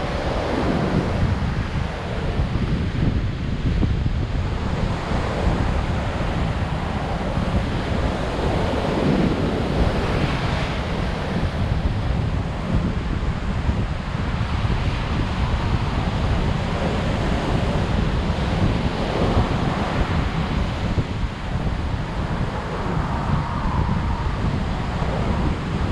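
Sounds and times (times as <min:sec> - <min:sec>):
surf breaking on a beach: 0:00.0 - 0:25.9
wind rumbling on microphone: 0:00.0 - 0:25.9.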